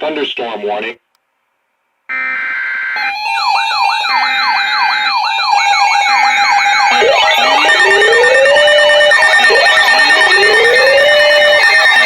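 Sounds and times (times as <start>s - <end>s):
high warbling siren tone: 2.1s - 12.0s
pulsing siren tone: 2.1s - 12.0s
yelping siren sweeps: 2.1s - 12.0s.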